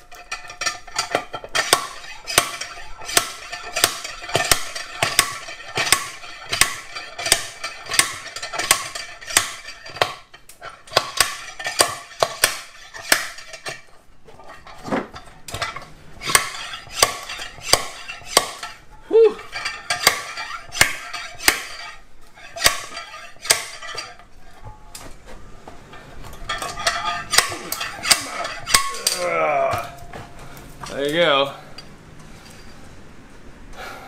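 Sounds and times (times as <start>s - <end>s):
slide hammer metallic clanks: 0.0s - 25.0s, 25.9s - 31.2s.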